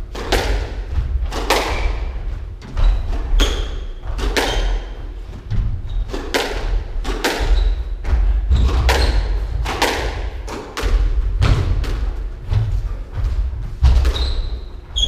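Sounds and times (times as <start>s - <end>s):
squash ball smacking: 0.0s - 12.7s
footsteps on wooden floor: 0.0s - 15.0s.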